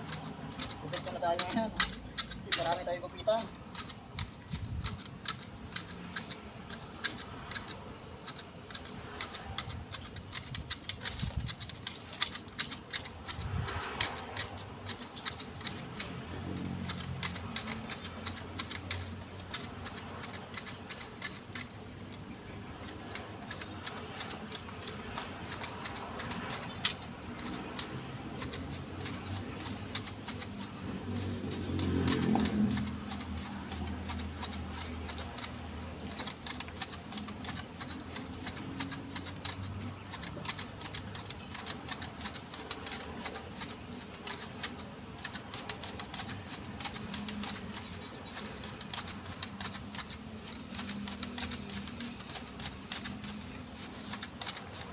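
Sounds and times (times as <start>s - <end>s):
hand shears snipping stems: 0.0s - 54.9s.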